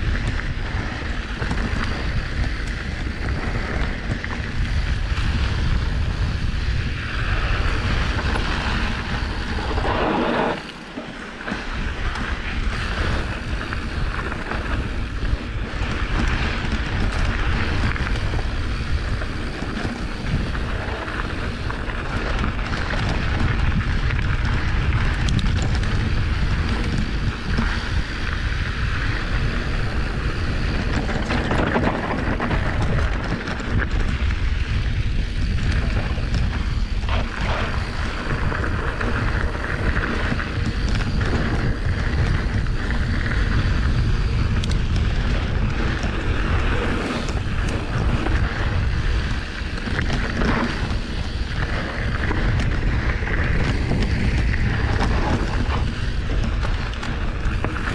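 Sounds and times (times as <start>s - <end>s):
bike clicks and rattles: 0.0s - 57.9s
bike tyres rumbling on dirt: 0.0s - 57.9s
wind buffeting microphone: 0.0s - 57.9s.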